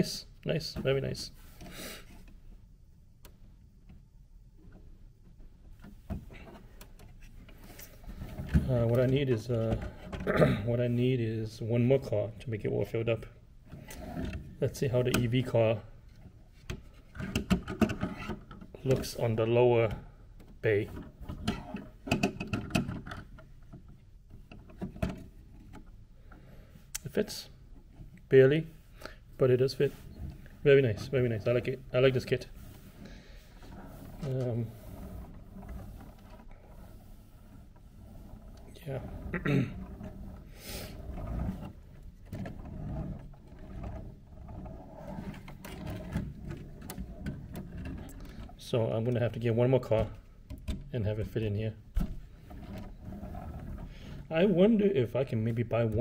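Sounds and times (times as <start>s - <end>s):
rumbling handling noise: 3.3s - 13.0s, 13.6s - 56.0s.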